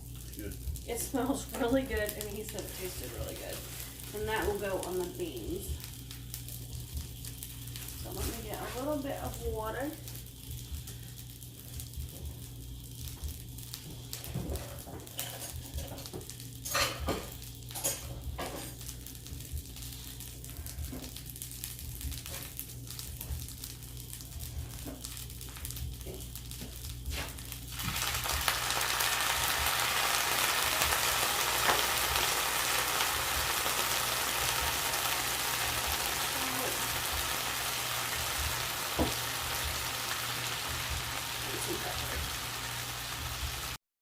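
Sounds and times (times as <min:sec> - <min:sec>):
food sizzling in a skillet: 0:00.0 - 0:43.8
water sizzling in hot pan: 0:00.0 - 0:43.8.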